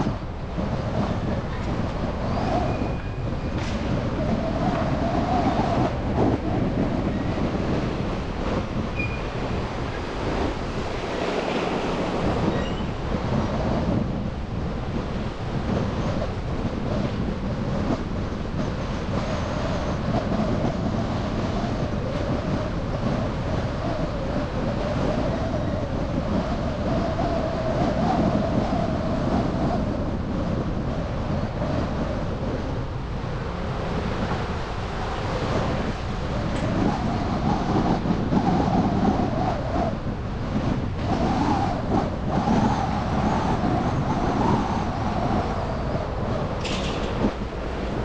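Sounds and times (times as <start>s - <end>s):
tyre and road noise: 0.0s - 26.6s, 29.9s - 48.0s.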